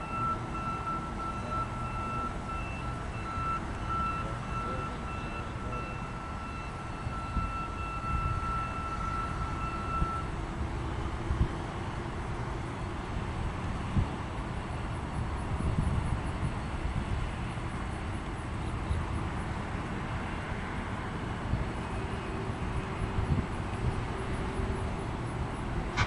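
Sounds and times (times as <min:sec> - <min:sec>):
freight cars rolling rumble: 0:00.0 - 0:26.0.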